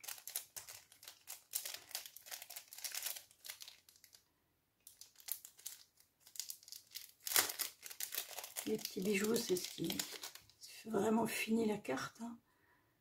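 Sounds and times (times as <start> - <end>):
plastic packet crinkling: 0.0 - 10.6.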